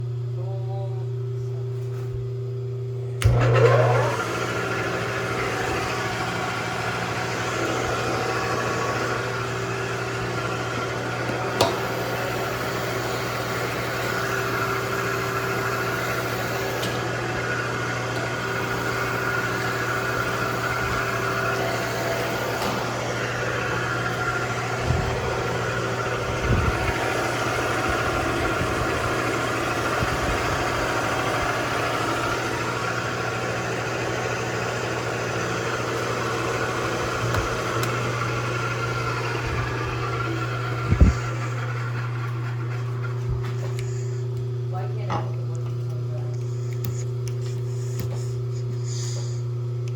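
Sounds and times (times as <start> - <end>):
milling machine running: 3.2 - 49.9.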